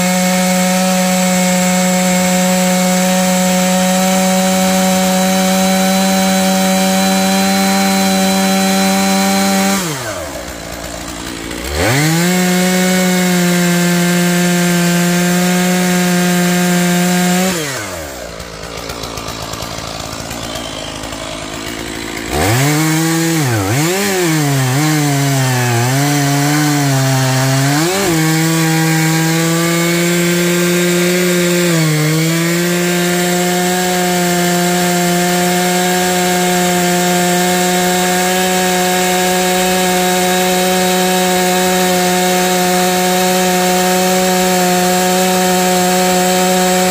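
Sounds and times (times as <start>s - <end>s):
chainsaw cutting logs: 0.0s - 46.9s.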